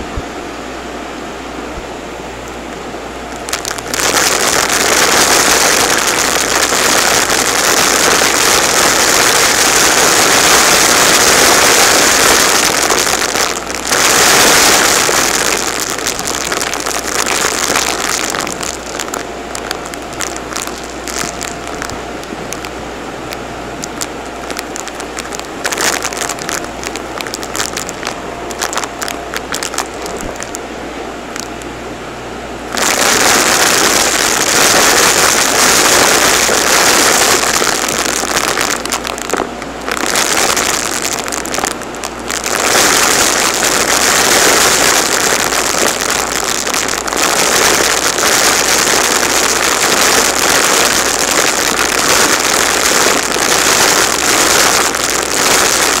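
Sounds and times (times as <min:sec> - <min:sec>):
confetti rattling into canister: 0:03.4 - 0:22.7, 0:23.8 - 0:30.6, 0:32.7 - 0:56.0
debris clicking up a vacuum: 0:03.4 - 0:30.6, 0:31.3 - 0:31.7, 0:32.7 - 0:56.0.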